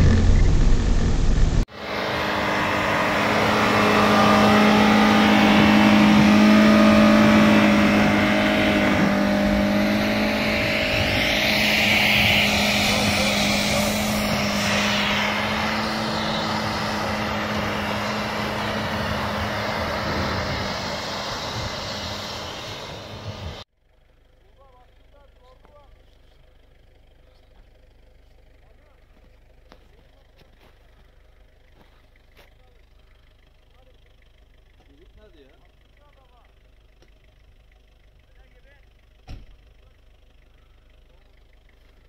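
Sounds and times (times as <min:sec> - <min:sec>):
car engine driving past: 0:00.0 - 0:42.0
tyres rushing on snow: 0:00.0 - 0:42.0.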